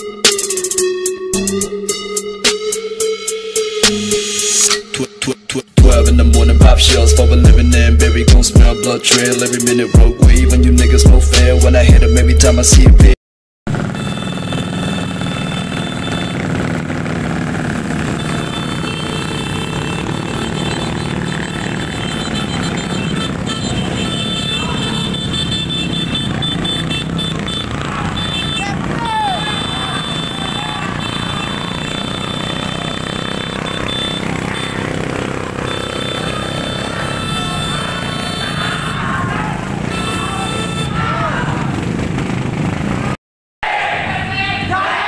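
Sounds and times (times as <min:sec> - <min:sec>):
motorcycle engines pulsing: 0:05.8 - 0:12.8, 0:13.7 - 0:43.2.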